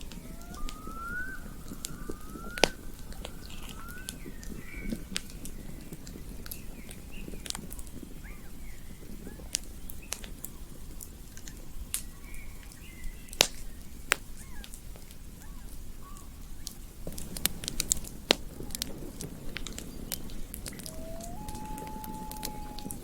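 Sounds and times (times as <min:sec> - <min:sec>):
campfire crackling and popping: 0:00.0 - 0:23.0
faint chirping calls: 0:00.0 - 0:23.0.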